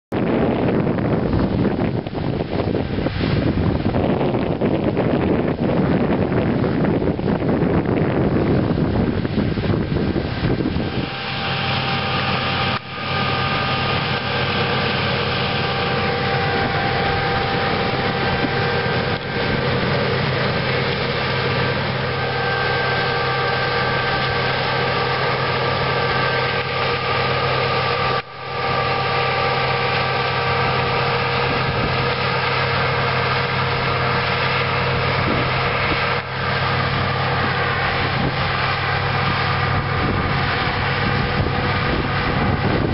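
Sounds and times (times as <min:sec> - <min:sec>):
combine harvester diesel drone: 0:00.0 - 0:42.9
machinery whining: 0:00.2 - 0:42.9.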